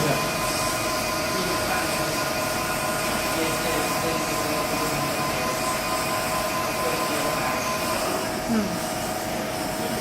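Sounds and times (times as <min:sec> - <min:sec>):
lathe mechanical hum: 0:00.0 - 0:10.0
steady whining tones: 0:00.0 - 0:10.0.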